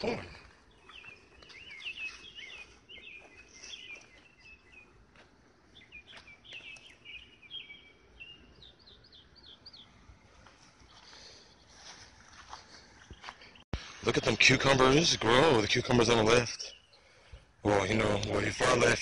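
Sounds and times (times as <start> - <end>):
birds chirping and singing: 0.0 - 19.0.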